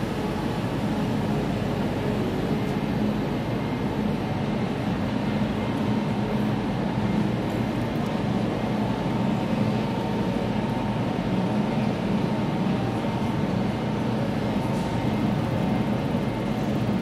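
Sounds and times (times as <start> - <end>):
echoing station hall noise: 0.0 - 17.0
standing train hum and whine: 0.0 - 17.0.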